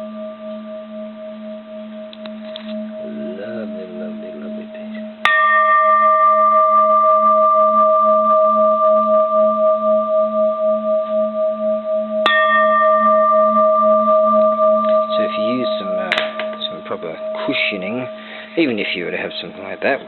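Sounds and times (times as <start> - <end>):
temple bell ringing: 0.0 - 20.0.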